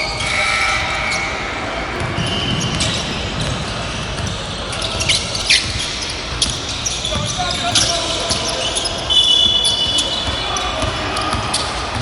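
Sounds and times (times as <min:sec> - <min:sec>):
basketball dribbling on court: 0:00.0 - 0:12.0.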